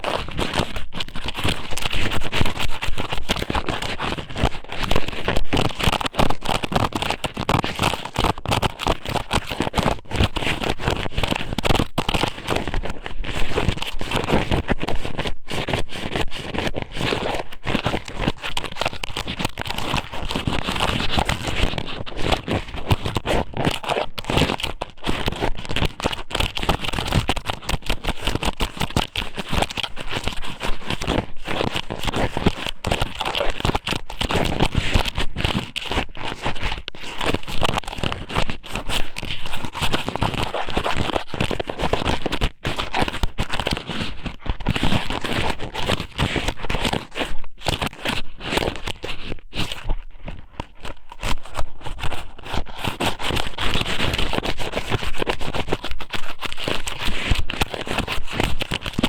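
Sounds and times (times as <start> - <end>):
squid crackling against microphone: 0.0 - 59.0.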